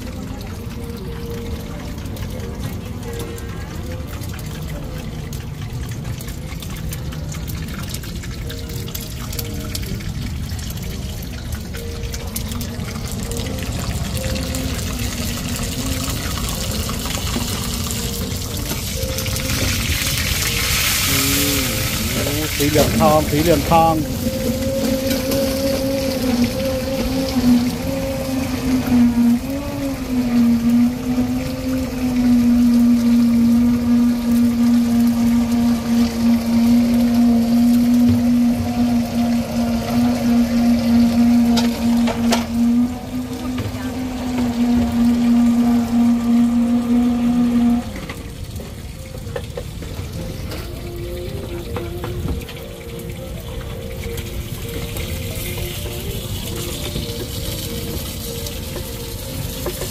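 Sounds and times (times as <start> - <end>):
hot oil sizzling and crackling: 0.0 - 43.7, 44.6 - 59.9
low rumbling noise: 0.0 - 59.9
steady machine hum: 0.0 - 59.9.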